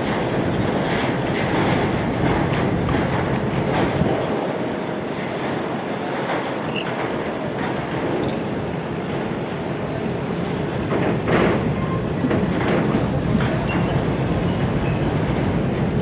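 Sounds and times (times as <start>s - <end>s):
machinery rumbling and rattling: 0.0s - 16.0s.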